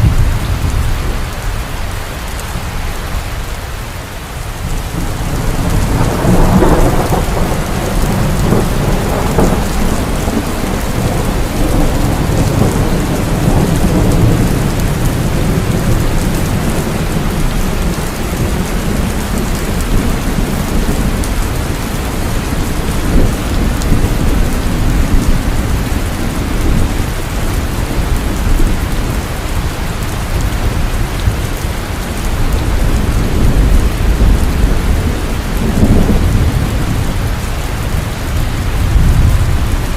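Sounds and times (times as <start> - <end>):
low rolling thunder: 0.0 - 3.5, 4.5 - 39.9
heavy rain falling: 0.0 - 39.9.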